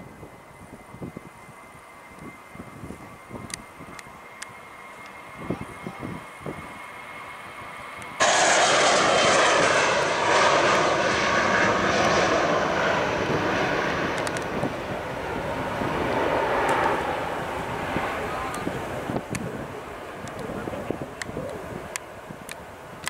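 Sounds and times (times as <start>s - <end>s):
jet engines roaring at takeoff: 0.0s - 23.0s.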